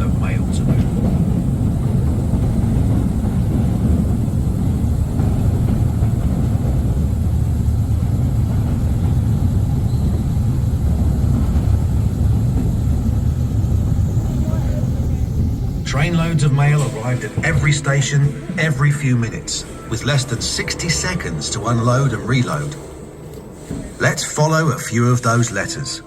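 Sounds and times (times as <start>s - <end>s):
small electric train rumbling: 0.0s - 26.0s.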